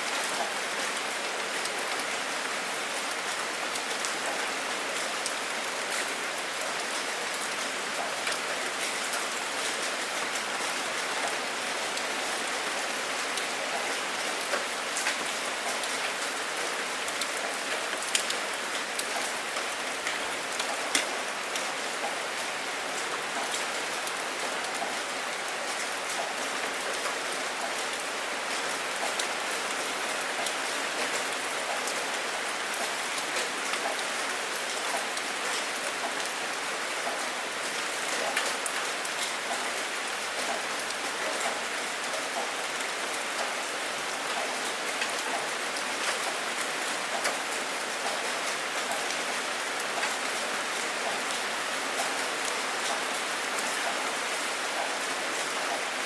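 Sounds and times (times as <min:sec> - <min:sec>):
steady rain falling: 0:00.0 - 0:56.0
raindrops ticking close by: 0:00.4 - 0:56.0.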